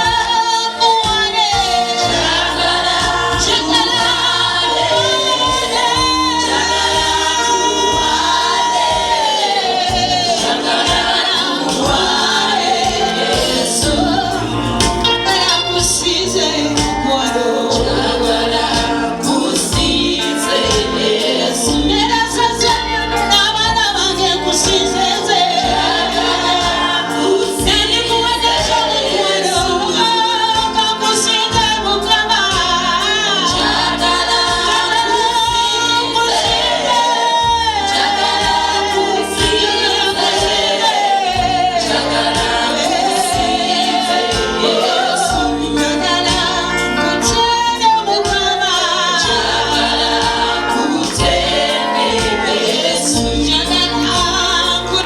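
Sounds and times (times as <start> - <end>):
gospel choir singing: 0.0 - 55.0
instrumental backing with bass: 0.0 - 55.0.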